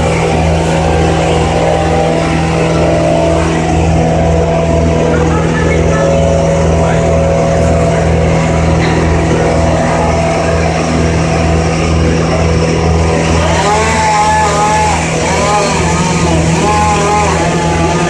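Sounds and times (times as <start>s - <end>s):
rising and falling tones: 0.0s - 16.7s
engine droning: 0.0s - 18.0s.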